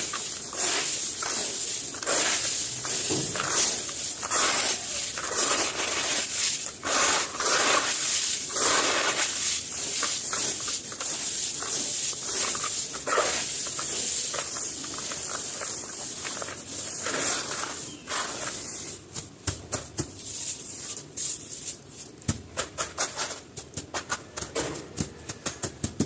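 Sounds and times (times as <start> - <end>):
dry gritty material crunching: 0.0 - 26.0.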